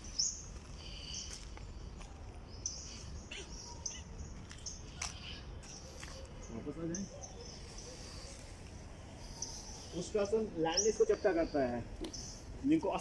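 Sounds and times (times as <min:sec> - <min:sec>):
birds chirping: 0:00.0 - 0:13.0
low outdoor background noise: 0:00.0 - 0:13.0.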